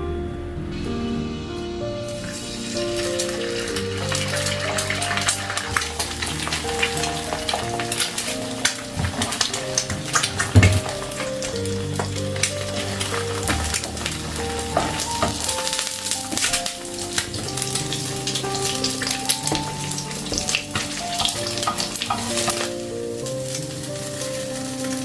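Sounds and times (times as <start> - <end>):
soft background music: 0.0 - 25.0
food sizzling in a frying pan: 2.1 - 25.0.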